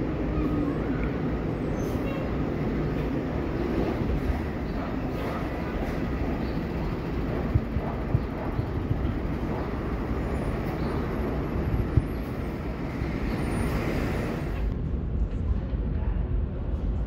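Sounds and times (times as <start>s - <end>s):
subway train wheels rumbling on rail: 0.0s - 17.0s
train entering underground station: 0.0s - 17.0s.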